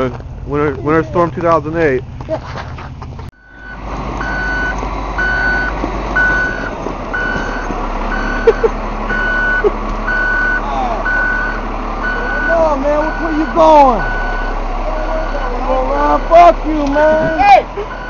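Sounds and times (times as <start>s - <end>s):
low engine rumble: 0.0s - 18.0s
reversing alarm beeping: 3.4s - 18.0s.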